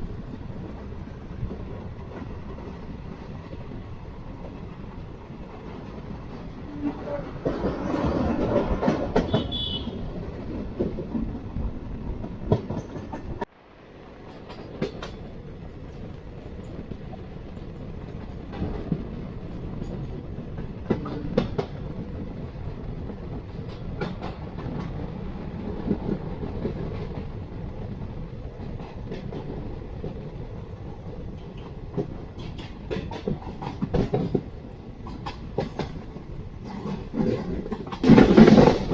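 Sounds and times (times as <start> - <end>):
wheels clicking over rail joints: 0.0 - 13.5, 14.2 - 38.9
train rumbling on track: 0.0 - 38.9.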